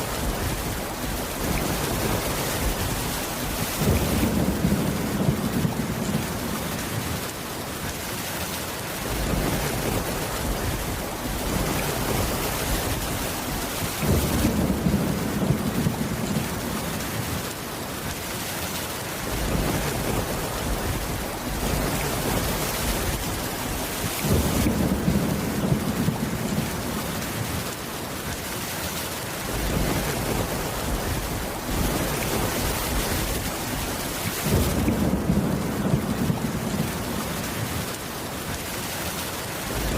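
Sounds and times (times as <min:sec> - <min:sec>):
rolling thunder rumbles: 0:00.0 - 0:07.2, 0:09.0 - 0:17.5, 0:19.2 - 0:27.7, 0:29.5 - 0:37.9, 0:39.6 - 0:39.9
steady rain falling: 0:00.0 - 0:39.9.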